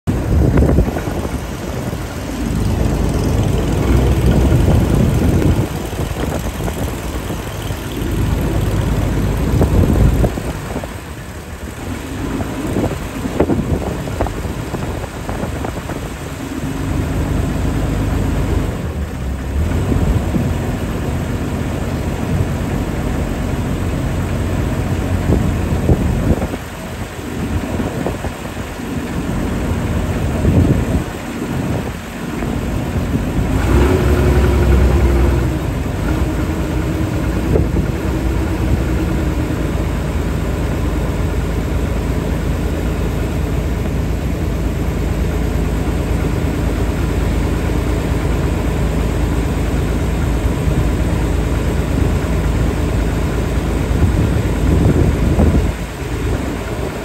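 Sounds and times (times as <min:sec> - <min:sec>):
boat engine running: 0:00.0 - 0:57.0
water rushing past hull: 0:00.1 - 0:57.0
wind buffeting microphone: 0:00.1 - 0:57.0.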